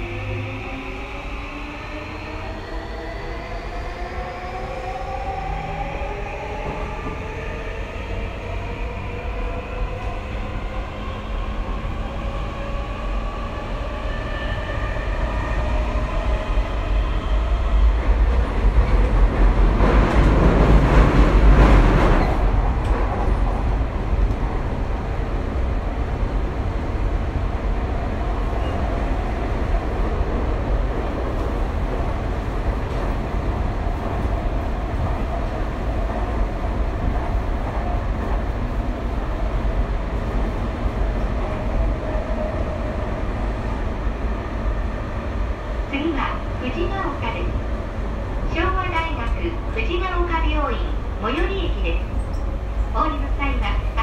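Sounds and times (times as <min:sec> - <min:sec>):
wheels rumbling on rail: 0:06.0 - 0:54.0.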